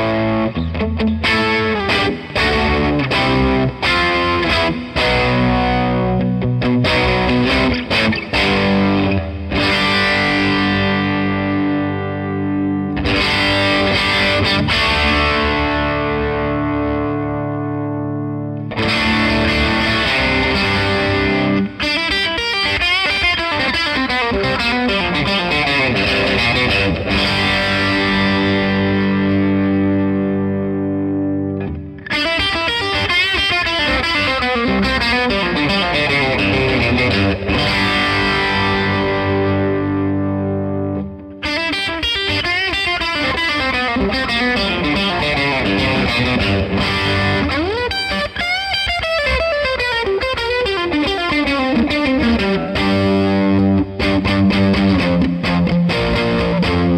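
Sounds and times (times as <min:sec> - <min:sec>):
distorted electric guitar chords: 0:00.0 - 0:56.9.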